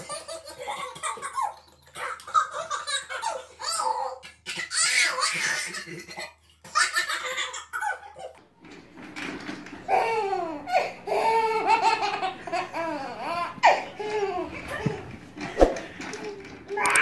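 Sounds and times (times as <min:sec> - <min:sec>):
babies laughing: 0:00.0 - 0:08.4, 0:09.8 - 0:17.0.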